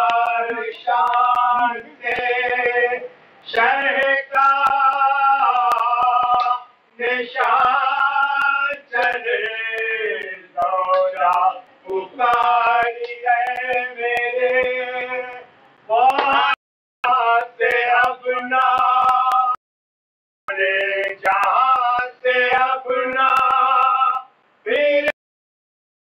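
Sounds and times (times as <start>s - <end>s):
person singing devotional chant: 0.0s - 19.6s, 20.5s - 25.2s.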